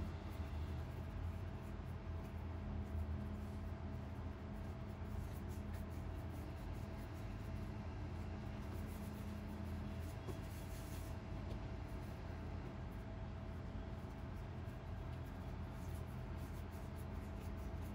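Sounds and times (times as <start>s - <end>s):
hands rolling dough: 0.0s - 17.9s
low hum with tones: 0.0s - 17.9s.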